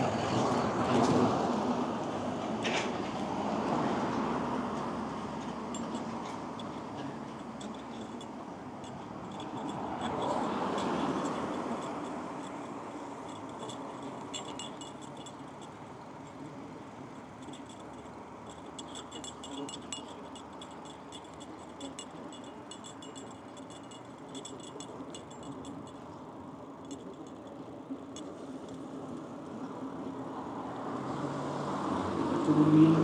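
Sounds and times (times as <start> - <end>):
road noise: 0.0 - 33.0
bicycle metallic jingling: 1.0 - 29.4.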